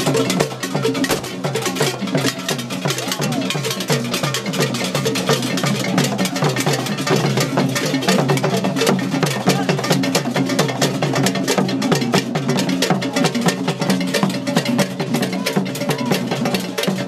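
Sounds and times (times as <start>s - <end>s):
drum ensemble playing fast rhythm: 0.0s - 17.0s.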